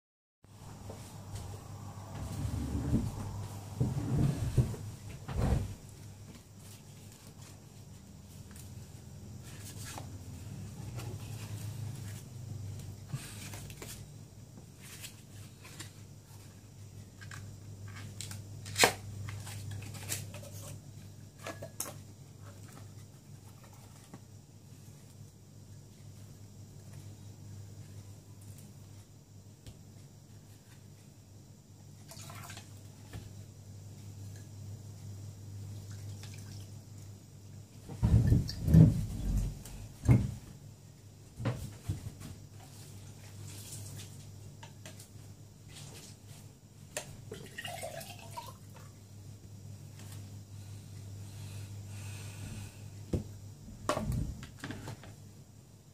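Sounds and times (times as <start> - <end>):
faint low hum: 0.5 - 55.9.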